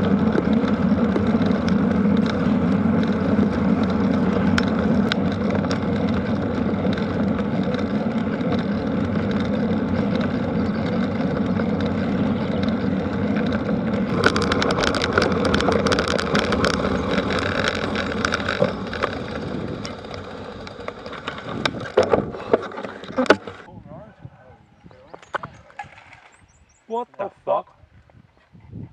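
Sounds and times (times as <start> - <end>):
clicking and rattling: 0.0 - 23.7
vehicle engine running: 0.0 - 23.7.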